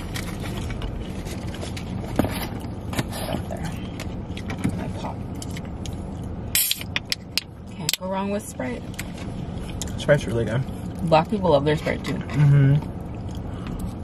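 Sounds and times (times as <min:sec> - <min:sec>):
low rumble inside a car: 0:00.0 - 0:14.0.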